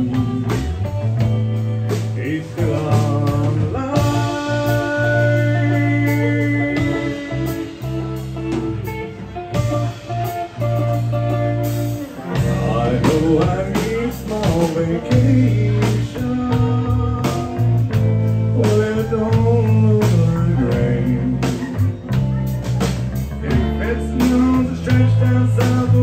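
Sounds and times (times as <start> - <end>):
live country band: 0.0 - 26.0.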